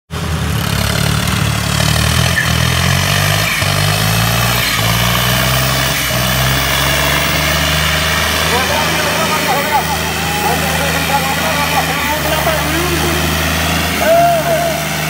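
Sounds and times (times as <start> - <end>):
tractor engines running hard: 0.1 - 15.0.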